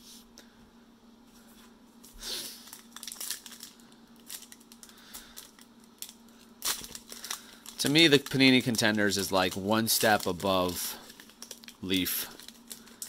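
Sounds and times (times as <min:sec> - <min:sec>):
foil pack crinkling: 0:02.4 - 0:13.0
foil wrapper tearing: 0:02.4 - 0:13.0.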